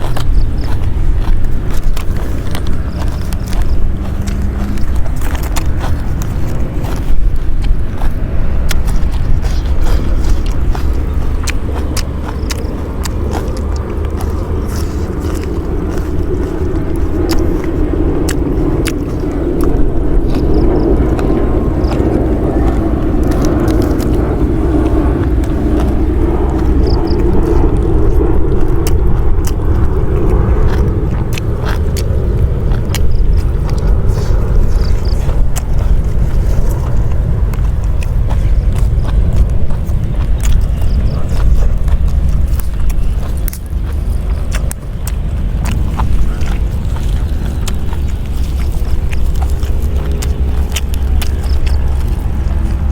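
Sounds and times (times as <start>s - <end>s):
chewing and crunching food: 0.0s - 52.9s
low rumble: 0.0s - 52.9s.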